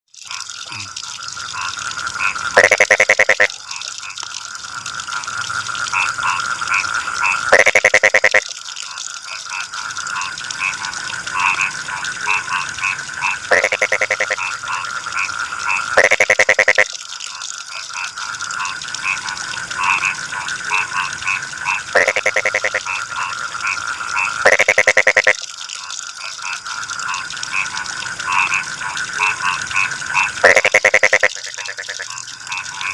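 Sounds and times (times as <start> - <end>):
chorus of chirping frogs: 0.1 - 32.9
water running from a spout: 0.1 - 32.9
frog pulsed croak: 0.2 - 32.9.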